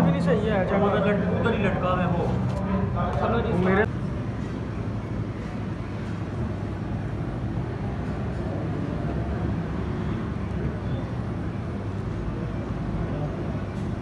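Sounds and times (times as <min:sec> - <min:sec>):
restaurant background rumble: 0:00.0 - 0:14.0.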